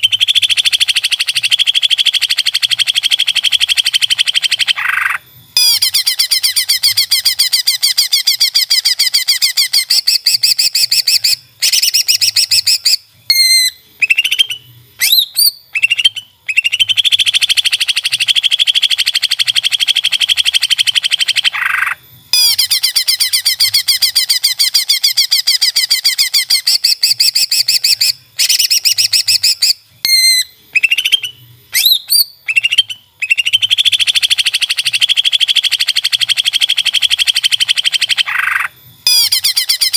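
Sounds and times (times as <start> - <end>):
bird song with buzzy trills: 0.0 - 39.9
whistled bird notes: 0.0 - 39.9.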